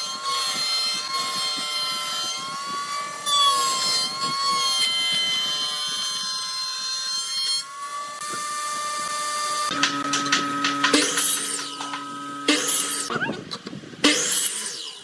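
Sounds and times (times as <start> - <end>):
power tool motor whine: 0.0 - 13.1, 14.0 - 15.0.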